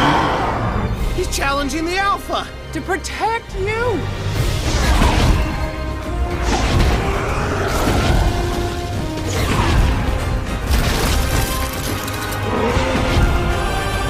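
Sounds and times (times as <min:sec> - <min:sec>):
dramatic orchestral music: 0:00.0 - 0:14.0.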